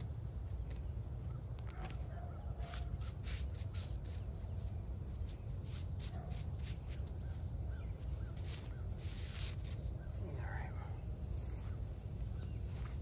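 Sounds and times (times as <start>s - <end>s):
grass tearing and rustling: 0.0s - 10.5s.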